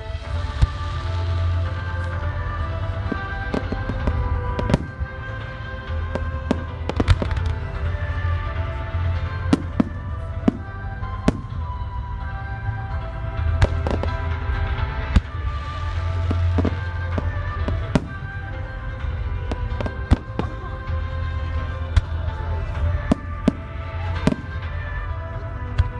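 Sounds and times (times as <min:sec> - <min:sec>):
music with strong bass: 0:00.0 - 0:25.9.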